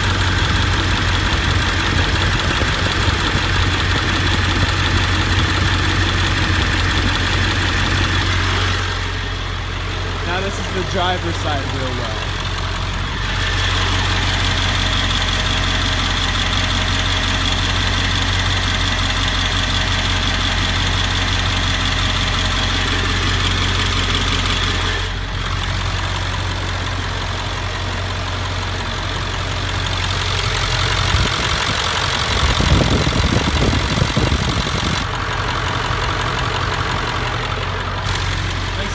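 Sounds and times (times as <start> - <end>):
diesel engine idling: 0.0 - 38.9
engine ticking: 0.0 - 38.9.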